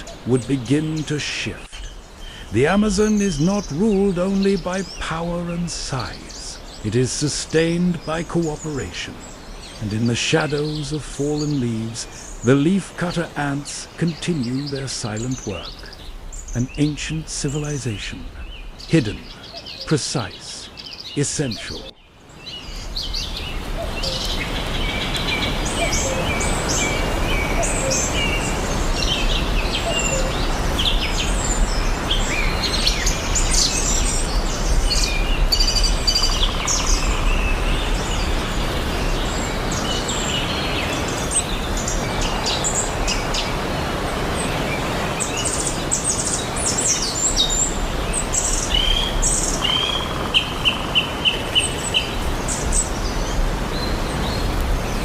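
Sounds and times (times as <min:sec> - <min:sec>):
birds chirping and calling: 0:00.0 - 0:55.0
steady background hiss: 0:00.0 - 0:55.0.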